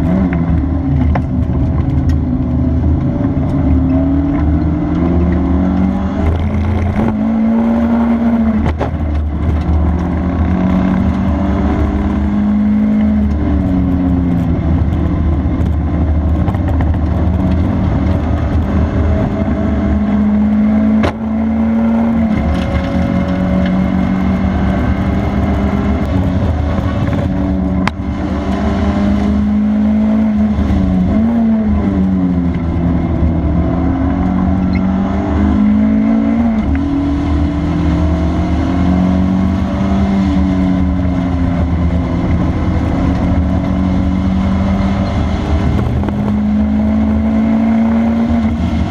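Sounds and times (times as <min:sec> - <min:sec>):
car engine accelerating: 0:00.0 - 0:48.9
low road rumble: 0:00.0 - 0:48.9.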